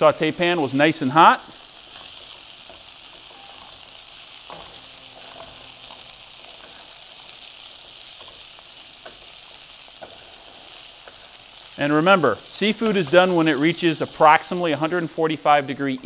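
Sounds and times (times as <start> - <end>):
shrimp sizzling in oil: 0.0 - 16.0.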